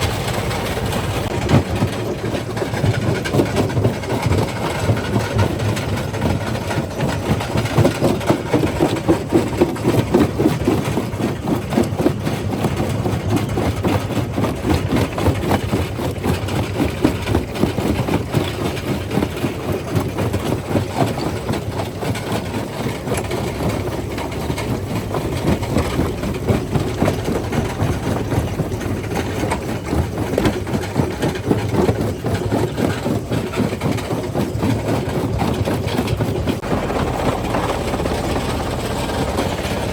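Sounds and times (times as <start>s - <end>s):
rock crusher rumbling: 0.0s - 39.9s.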